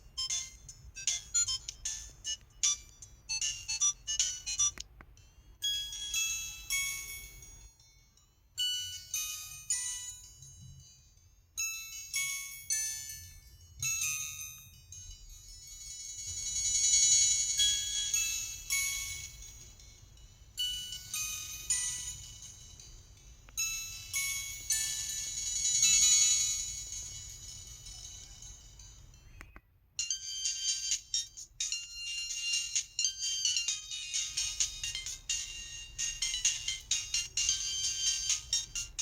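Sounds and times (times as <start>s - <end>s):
phone ringtone melodies: 0.0s - 29.4s, 30.0s - 39.0s.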